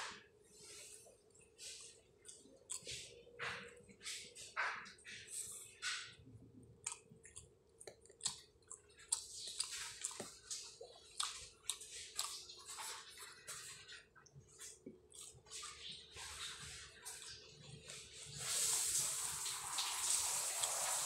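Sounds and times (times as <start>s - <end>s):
chewing and lip-smacking: 1.0s - 18.4s, 20.4s - 21.0s.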